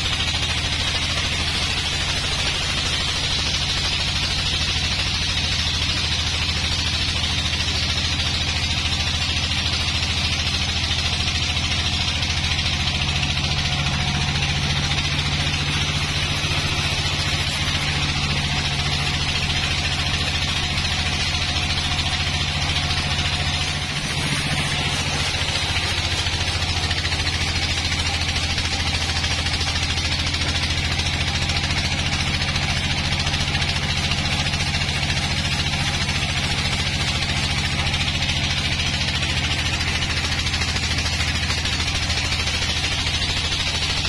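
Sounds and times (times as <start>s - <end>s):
saw blade cutting log: 0.0s - 44.0s
sawmill machine hum: 0.0s - 44.0s.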